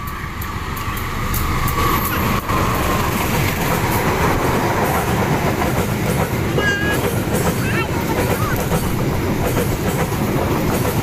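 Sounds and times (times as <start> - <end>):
diesel locomotive passing: 0.0 - 11.0
train wheels rumbling on rails: 0.0 - 11.0.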